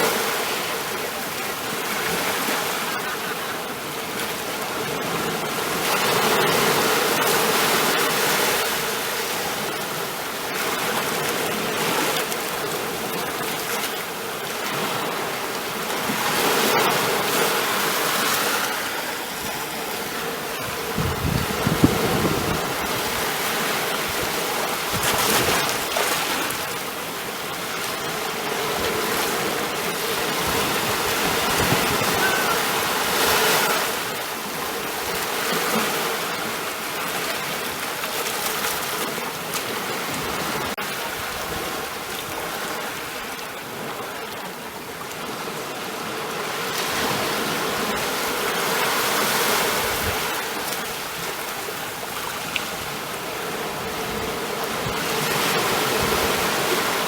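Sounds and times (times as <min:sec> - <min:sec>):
ocean waves surf: 0:00.0 - 0:57.0.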